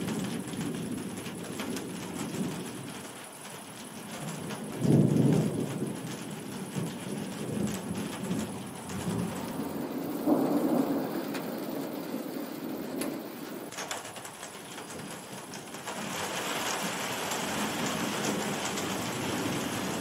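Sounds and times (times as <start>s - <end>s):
thunder rumbling: 0.0s - 13.7s, 16.8s - 20.0s
steady rain: 0.0s - 20.0s.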